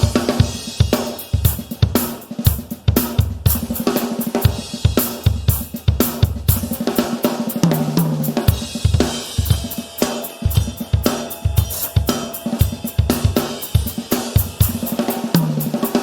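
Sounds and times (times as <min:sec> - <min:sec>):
hi-hat and cymbal wash: 0:00.0 - 0:16.0.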